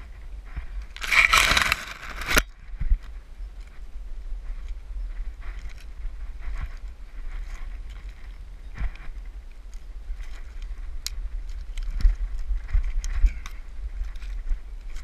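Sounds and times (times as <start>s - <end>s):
wind buffeting microphone: 0.0s - 15.0s
branches rustling and snapping: 0.8s - 3.8s, 5.4s - 15.0s.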